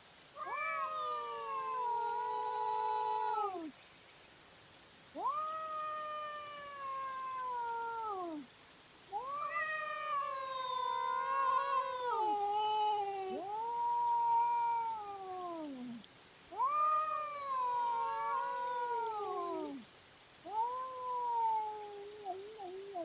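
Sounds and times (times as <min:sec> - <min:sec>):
cat yowling: 0:00.4 - 0:03.7, 0:05.2 - 0:08.5, 0:09.1 - 0:19.8, 0:20.4 - 0:23.0.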